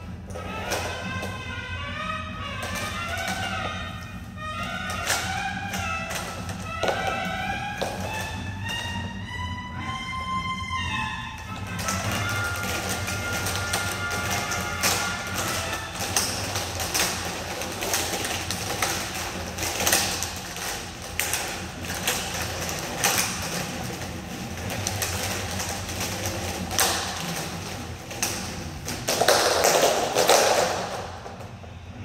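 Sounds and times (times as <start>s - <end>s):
box fan humming: 0.0s - 32.0s
hula hoops clicking and knocking: 0.0s - 32.0s
hoops clattering onto wooden floor: 2.4s - 9.1s, 11.4s - 31.6s.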